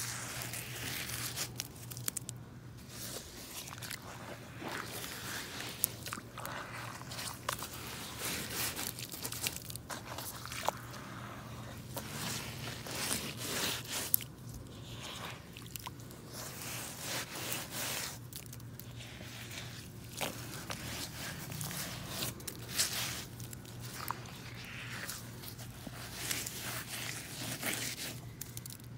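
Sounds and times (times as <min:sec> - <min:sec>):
boots squelching through mud: 0:02.9 - 0:28.7.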